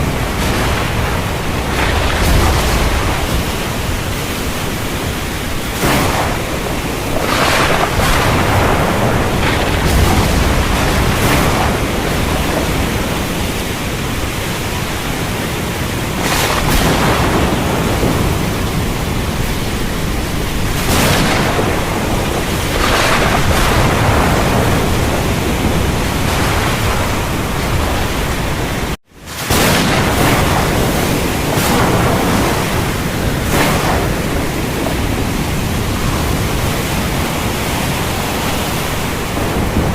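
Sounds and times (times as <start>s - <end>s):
heavy rain: 0.0s - 39.9s
thunder cracks: 0.0s - 39.9s.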